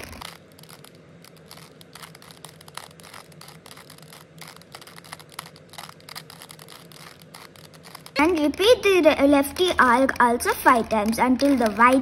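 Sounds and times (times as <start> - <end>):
puzzle cube plastic clicks: 0.0 - 12.0.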